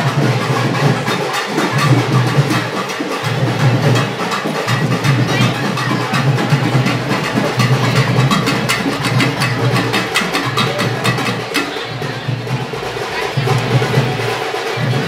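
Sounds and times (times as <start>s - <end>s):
fast steady drumming: 0.0s - 15.0s.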